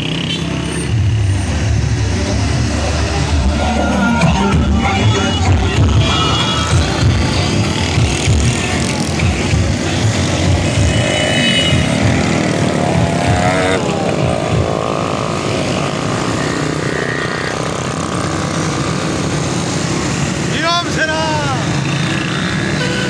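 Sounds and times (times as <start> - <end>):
motorcycle engines droning: 0.0 - 23.0.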